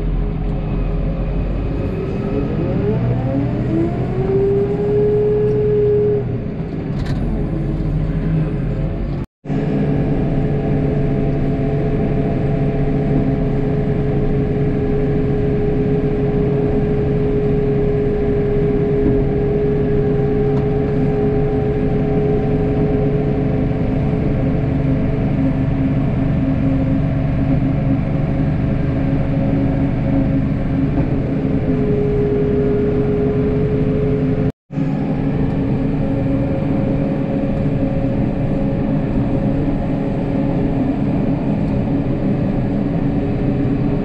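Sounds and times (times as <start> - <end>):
snowplow engine running: 0.0 - 44.0.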